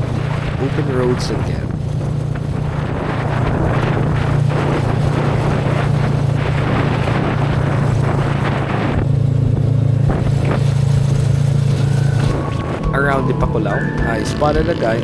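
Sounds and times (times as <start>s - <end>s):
motorcycle engine droning: 0.0s - 15.0s
wind rushing over microphone: 0.0s - 15.0s.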